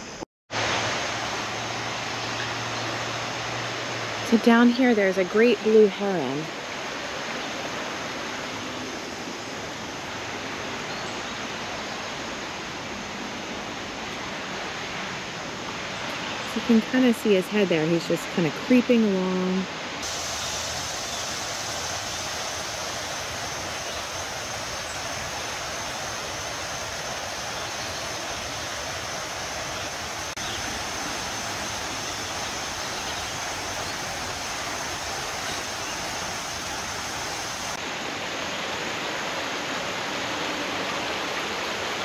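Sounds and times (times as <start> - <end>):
creek water running: 0.0 - 42.0.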